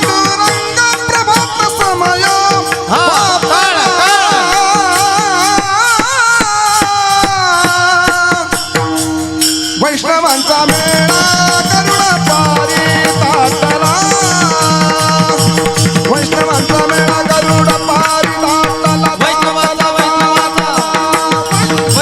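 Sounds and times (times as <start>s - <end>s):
jingling percussion: 0.0s - 22.0s
man singing devotional melody: 0.0s - 22.0s.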